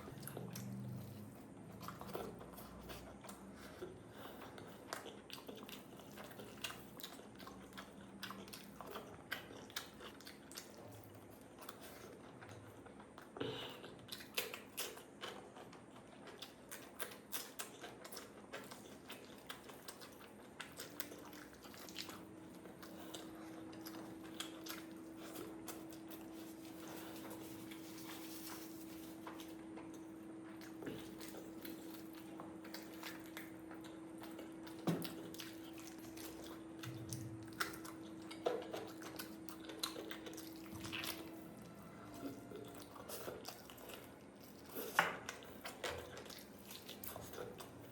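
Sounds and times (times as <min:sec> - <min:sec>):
wet chewing and squishing: 0:00.0 - 0:47.9.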